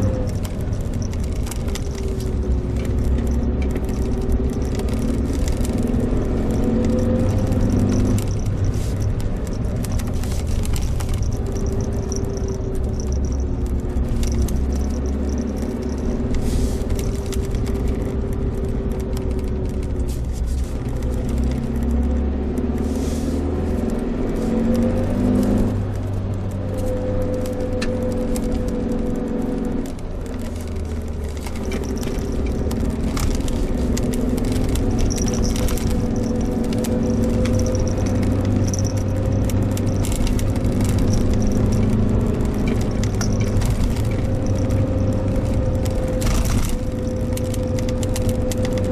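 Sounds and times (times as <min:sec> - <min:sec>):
car engine running: 0:00.0 - 0:48.9
low road rumble: 0:00.0 - 0:48.9.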